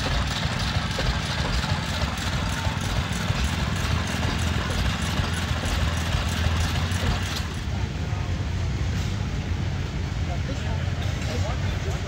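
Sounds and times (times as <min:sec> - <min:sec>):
old engine rumbling: 0:00.0 - 0:12.0.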